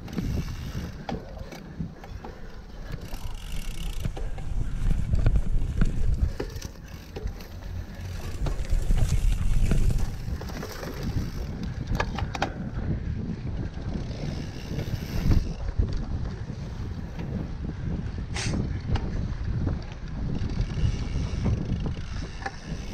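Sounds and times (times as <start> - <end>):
bike rattling clicks: 0.0 - 22.9
bike tyres rumbling on dirt: 0.0 - 22.9
wind buffeting microphone: 0.0 - 22.9.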